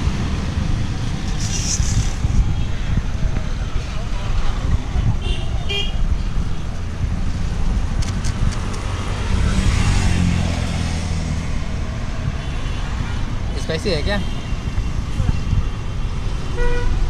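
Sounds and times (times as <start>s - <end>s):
street traffic rumbling: 0.0s - 17.0s.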